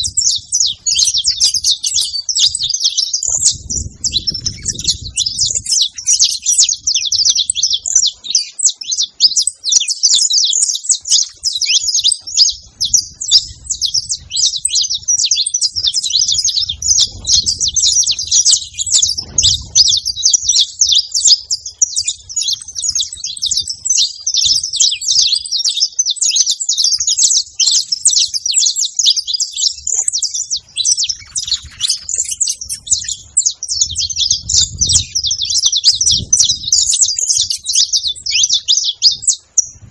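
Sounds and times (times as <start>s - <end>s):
finch chirping rapidly: 0.0s - 39.9s.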